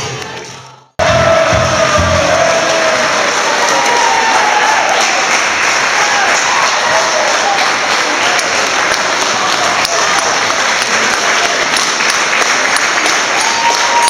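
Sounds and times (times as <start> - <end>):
audience applauding: 1.4 - 14.0.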